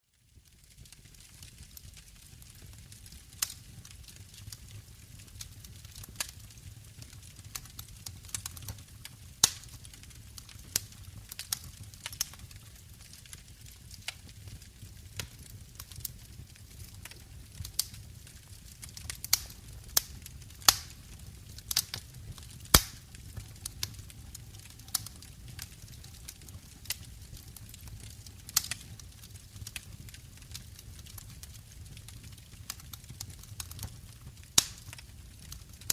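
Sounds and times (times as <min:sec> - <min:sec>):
wood fire crackling: 0:00.1 - 0:35.9.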